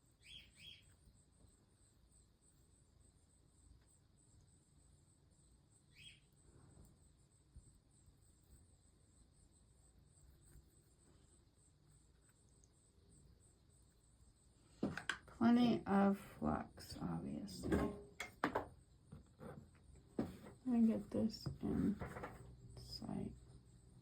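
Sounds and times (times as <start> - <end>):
faint high-pitched whine: 0.0 - 24.0.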